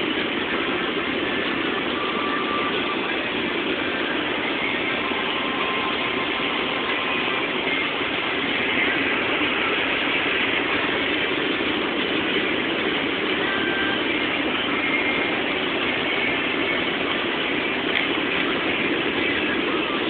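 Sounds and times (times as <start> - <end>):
wind and tyre noise in car: 0.0 - 20.0.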